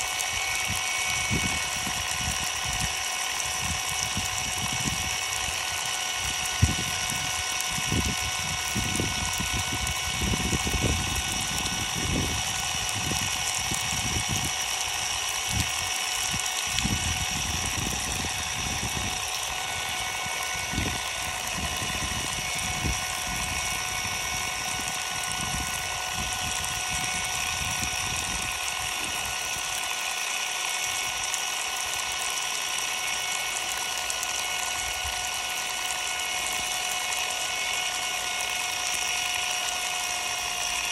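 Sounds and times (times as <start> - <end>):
electric motor whining: 0.0 - 40.9
water spray hissing and splashing: 0.0 - 40.9.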